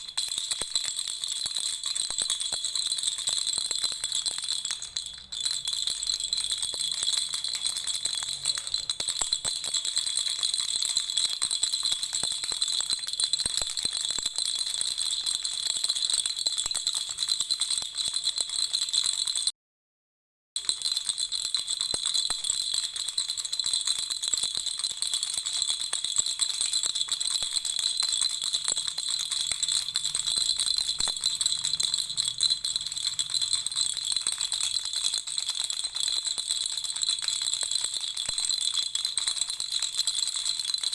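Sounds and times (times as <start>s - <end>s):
baby rattle shaken: 0.0s - 17.2s, 20.8s - 40.9s.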